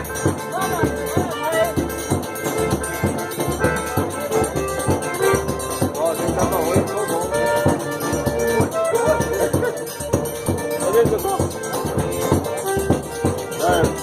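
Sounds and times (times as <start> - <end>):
dance music melody: 0.0 - 14.0
drum beat: 0.0 - 14.0.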